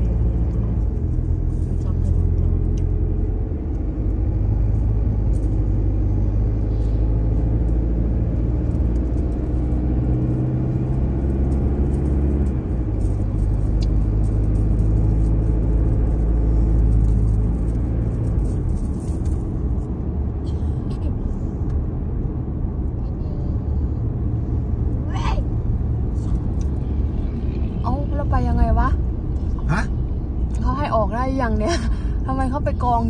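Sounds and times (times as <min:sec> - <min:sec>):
car engine from inside cabin: 0:00.0 - 0:33.0
road rumble: 0:00.0 - 0:33.0.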